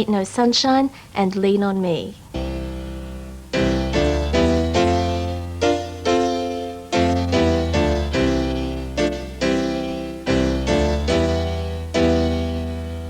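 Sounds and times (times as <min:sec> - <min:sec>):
piano chords over low bass: 0:02.4 - 0:13.0.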